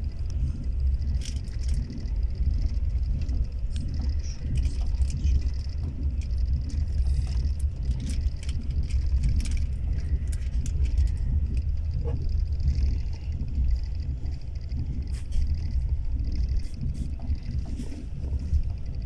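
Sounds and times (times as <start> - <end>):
vehicle rumble: 0.0 - 19.0
light clicks and ticks: 0.1 - 19.0.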